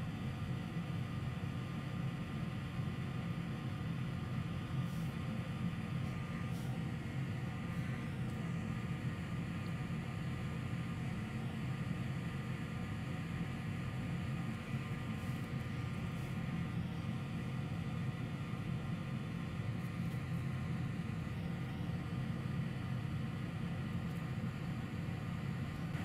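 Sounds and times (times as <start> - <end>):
faint whine: 0.0 - 26.0
fan motor humming: 4.5 - 26.0.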